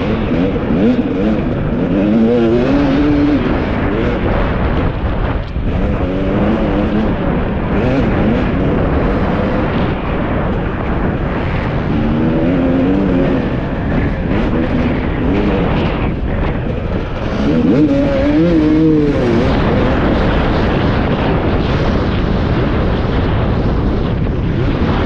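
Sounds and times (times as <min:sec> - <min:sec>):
motocross bike engine revving: 0:00.0 - 0:22.0
wind rumble on microphone: 0:00.0 - 0:25.0.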